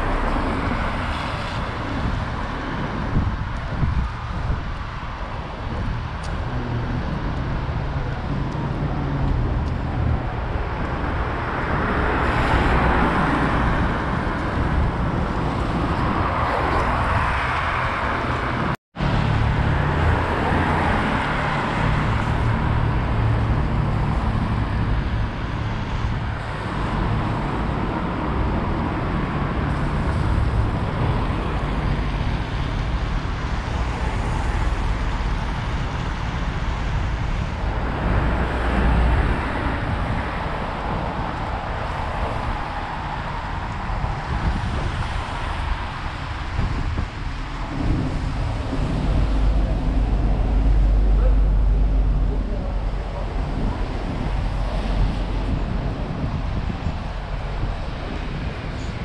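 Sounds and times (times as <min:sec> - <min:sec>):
cars passing: 0:00.0 - 0:59.0
traffic hum: 0:00.0 - 0:59.0.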